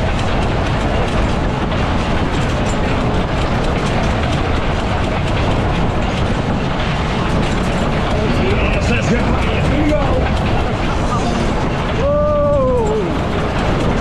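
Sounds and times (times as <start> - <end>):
ride wheels rumbling on rails: 0.0 - 14.0.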